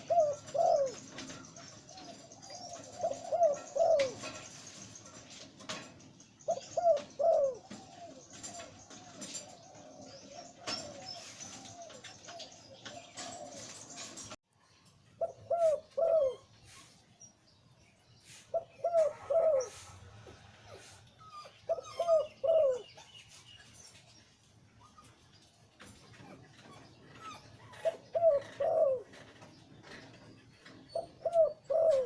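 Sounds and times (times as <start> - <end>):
dove cooing: 0.0 - 14.4, 15.2 - 16.8, 18.4 - 23.0, 26.2 - 32.0.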